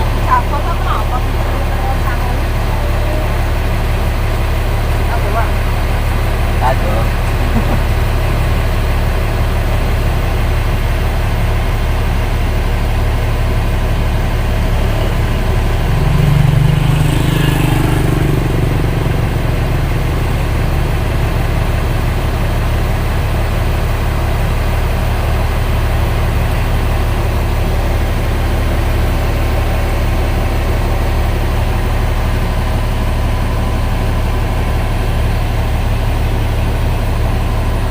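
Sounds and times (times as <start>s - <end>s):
truck crane diesel engine idling: 0.0s - 37.9s.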